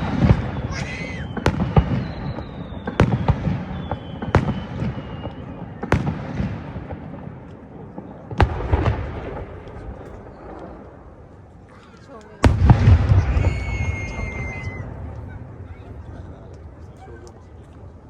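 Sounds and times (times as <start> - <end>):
fireworks booming: 0.0 - 11.7, 12.4 - 17.9
fireworks crackling: 0.0 - 18.0.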